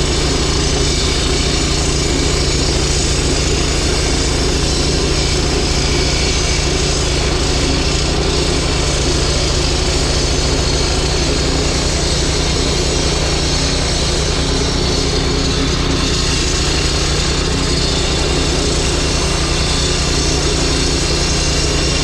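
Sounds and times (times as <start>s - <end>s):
diesel engine throbbing: 0.0s - 22.0s.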